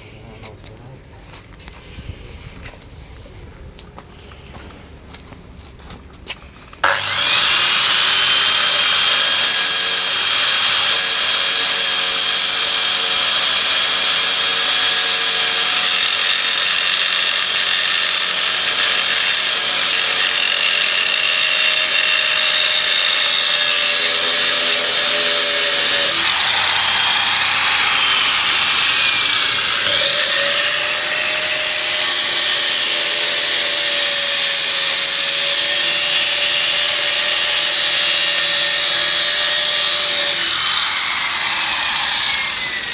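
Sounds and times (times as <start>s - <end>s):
angle grinder cutting steel: 6.8s - 42.9s.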